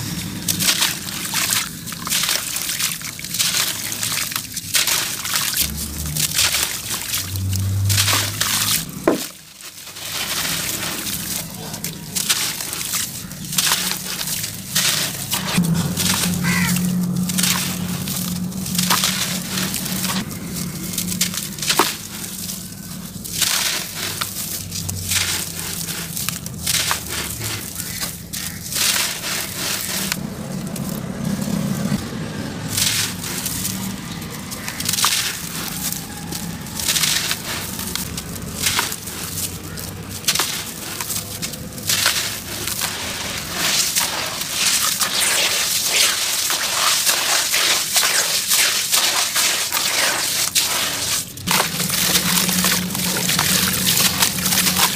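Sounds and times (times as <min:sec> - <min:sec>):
gritty crunching and crackling: 0:00.0 - 0:54.9
wet splashing: 0:00.0 - 0:54.9.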